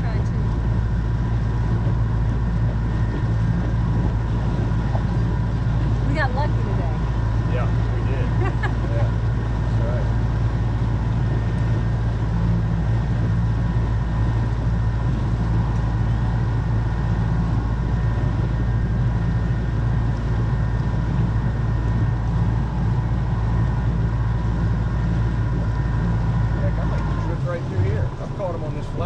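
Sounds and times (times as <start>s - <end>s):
small boat motor humming: 0.0s - 29.0s.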